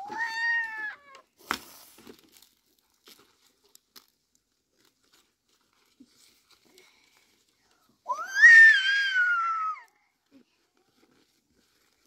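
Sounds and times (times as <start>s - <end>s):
clicks and crinkling crackles: 0.0s - 8.1s, 9.1s - 12.0s.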